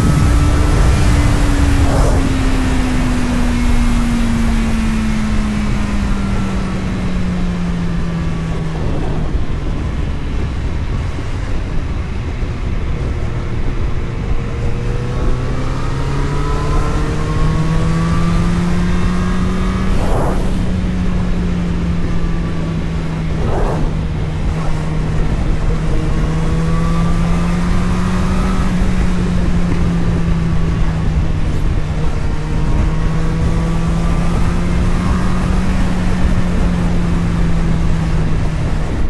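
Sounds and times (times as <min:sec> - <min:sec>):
road and wind rumble: 0:00.0 - 0:39.0
vehicle engine: 0:00.0 - 0:39.0.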